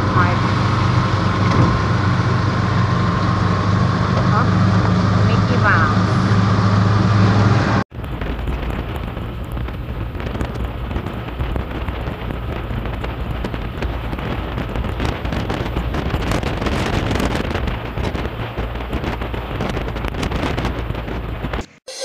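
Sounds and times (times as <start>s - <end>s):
rain pattering: 0.0s - 7.2s, 7.9s - 21.7s
wind rushing: 0.0s - 21.6s
road noise: 0.0s - 21.9s.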